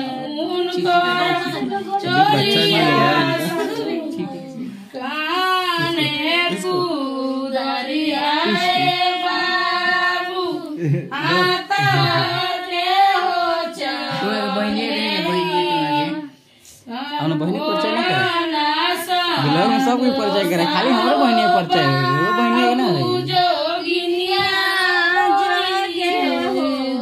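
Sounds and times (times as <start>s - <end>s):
high voices singing: 0.0s - 27.0s.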